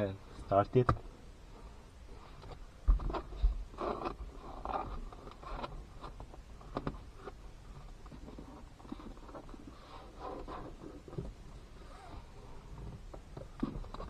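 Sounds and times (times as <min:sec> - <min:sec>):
hands scraping and rustling cable: 0:02.1 - 0:14.0.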